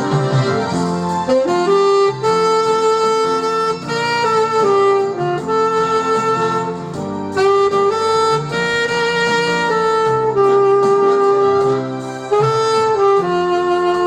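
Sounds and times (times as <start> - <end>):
backing accompaniment track: 0.0 - 14.0
saxophone playing slow melody: 0.0 - 14.0.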